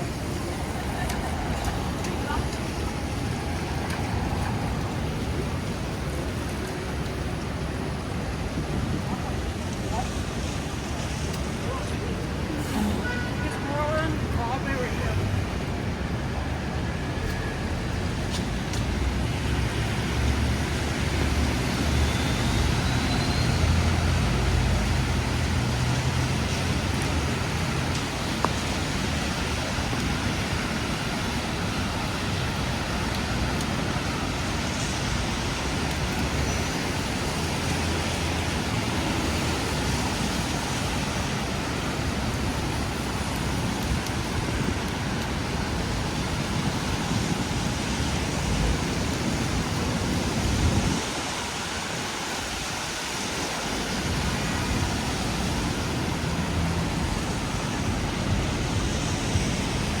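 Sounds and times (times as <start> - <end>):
rain hissing: 0.0 - 60.0
rumble of passing vehicles: 0.0 - 60.0.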